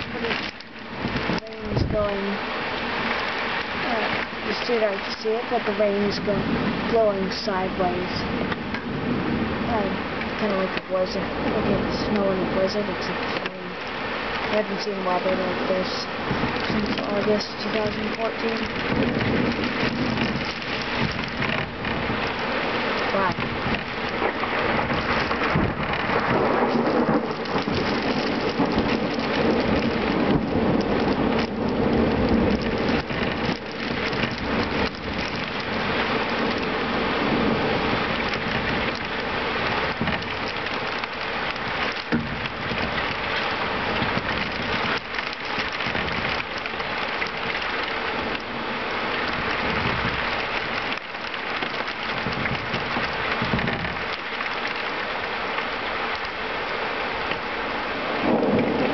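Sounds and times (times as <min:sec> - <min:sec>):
heavy rain pouring: 0:00.0 - 0:58.9
thunder rumbling: 0:00.0 - 0:58.9
wind: 0:00.0 - 0:58.9.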